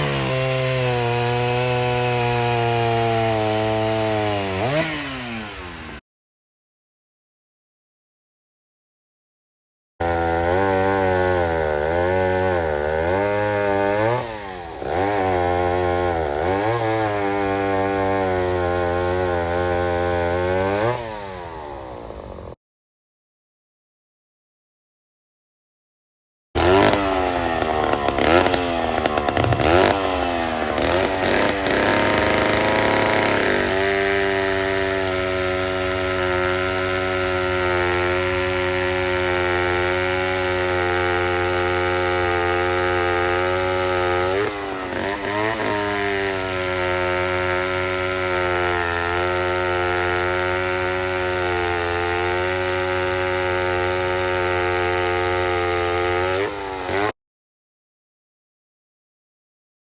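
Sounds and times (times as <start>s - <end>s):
chainsaw revving: 0.0s - 6.0s, 10.0s - 22.6s, 26.6s - 57.2s.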